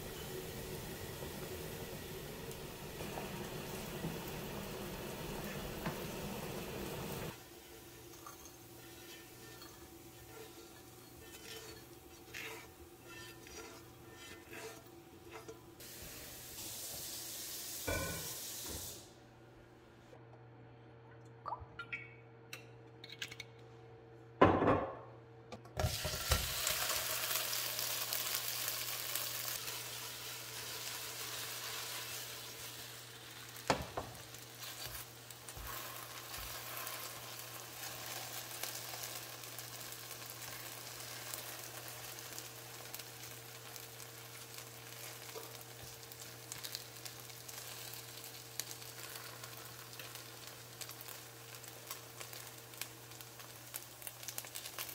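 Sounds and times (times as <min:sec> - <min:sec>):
rice cakes sizzling in oil: 0:00.0 - 0:19.1, 0:25.8 - 0:54.9.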